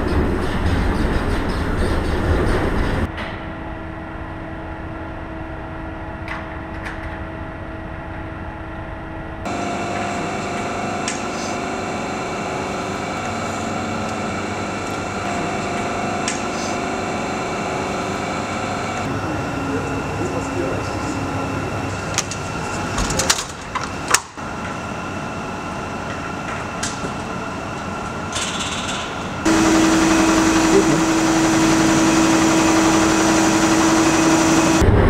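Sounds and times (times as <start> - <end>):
machinery hum with steady tones: 0.0 - 35.0.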